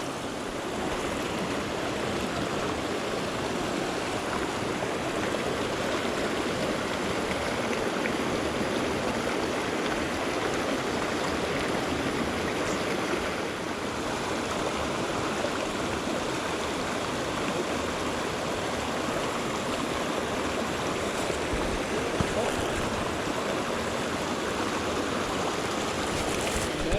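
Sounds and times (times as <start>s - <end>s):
creek water flowing: 0.0s - 26.9s.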